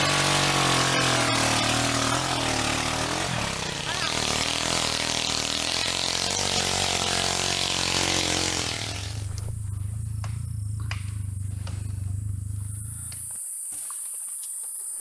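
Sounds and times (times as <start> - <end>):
vehicle engine running: 0.0 - 13.4.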